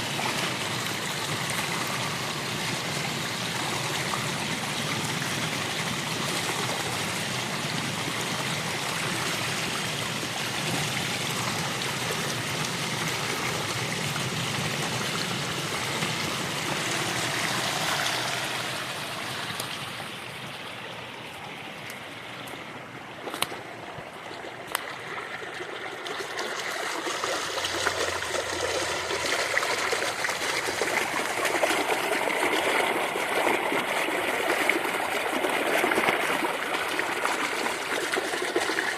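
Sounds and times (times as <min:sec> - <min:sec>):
creek babbling over rocks: 0:00.0 - 0:38.9.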